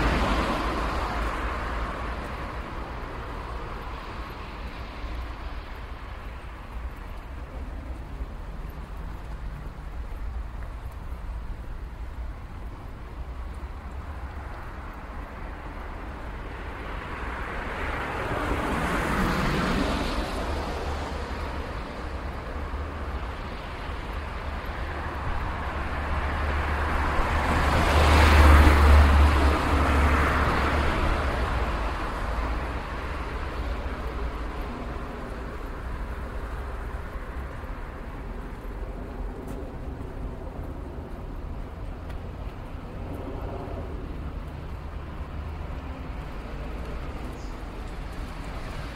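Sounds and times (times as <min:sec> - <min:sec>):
traffic rumble: 0:00.0 - 0:48.9
vehicles passing close by: 0:00.0 - 0:48.9.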